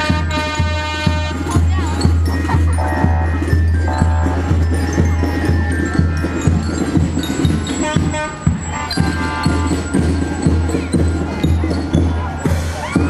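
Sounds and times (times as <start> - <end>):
music with steady beat and bass: 0.0 - 13.0.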